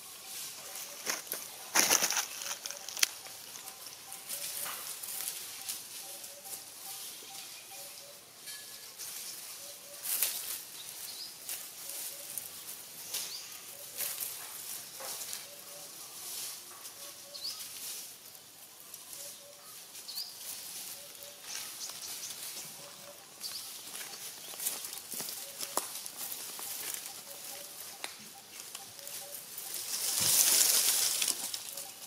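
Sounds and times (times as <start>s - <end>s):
dry leaves crackling and rustling: 0.0s - 32.0s.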